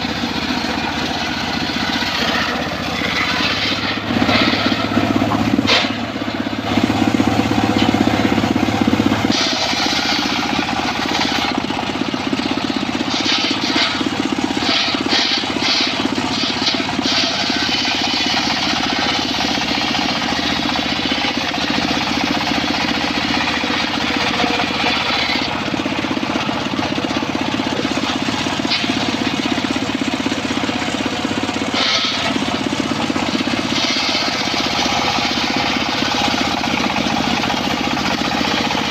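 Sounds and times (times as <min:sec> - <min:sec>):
circular saw cutting wood: 0:00.0 - 0:38.9.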